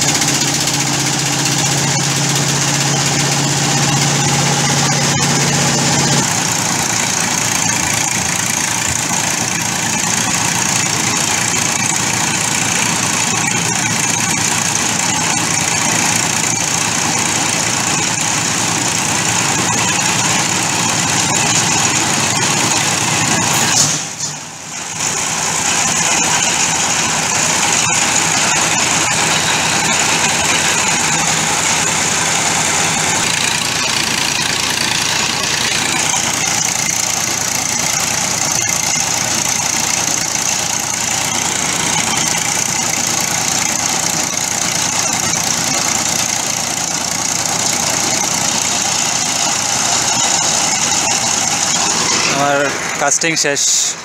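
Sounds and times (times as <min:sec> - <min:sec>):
concrete mixer engine: 0:00.0 - 0:54.0
winch rig engine: 0:00.0 - 0:54.0.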